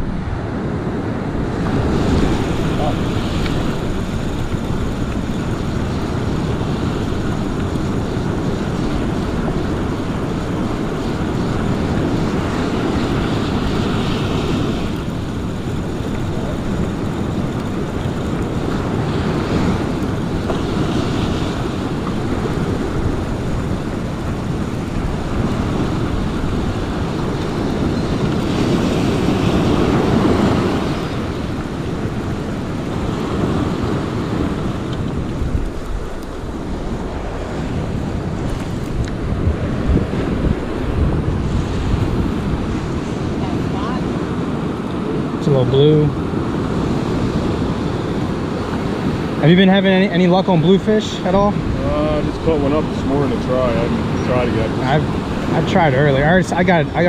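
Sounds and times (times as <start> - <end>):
ocean surf breaking on beach: 0.0 - 57.0
wind buffeting microphone: 0.0 - 57.0.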